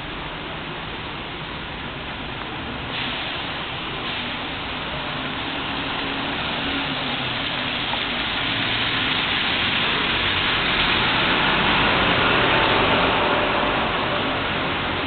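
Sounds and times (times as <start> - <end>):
rain hissing: 0.0 - 15.0
tyres on wet road: 0.0 - 15.0.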